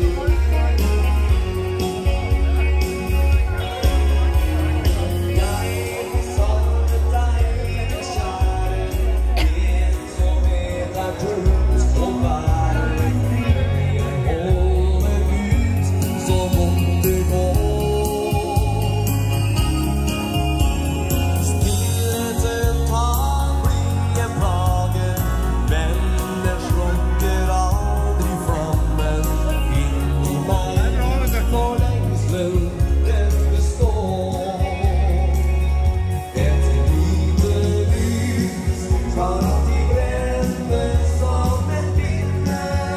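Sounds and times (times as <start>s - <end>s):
dance band playing live: 0.0s - 42.9s
heavy bass line: 0.0s - 42.9s
person singing: 0.0s - 42.9s.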